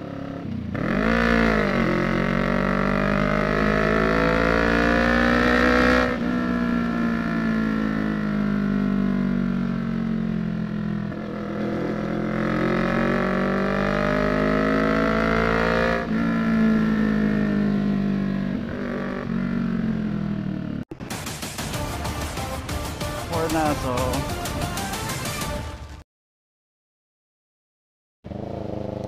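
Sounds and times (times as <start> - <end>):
motorcycle engine revving: 0.0 - 25.6, 28.2 - 29.0.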